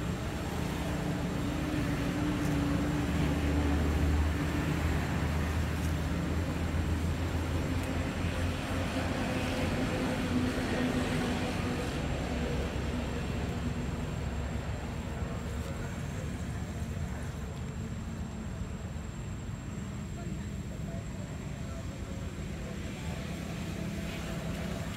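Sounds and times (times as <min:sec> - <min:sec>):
engine drone: 0:00.0 - 0:24.9
traffic rumble: 0:00.0 - 0:24.9.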